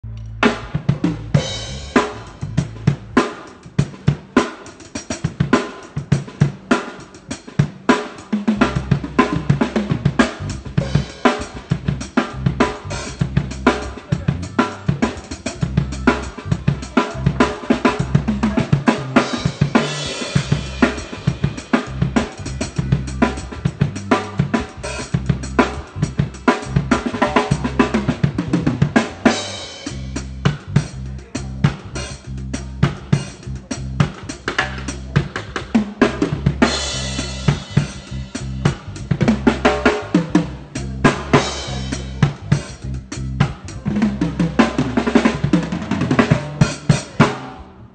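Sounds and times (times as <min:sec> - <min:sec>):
drum kit groove: 0:00.0 - 0:47.8.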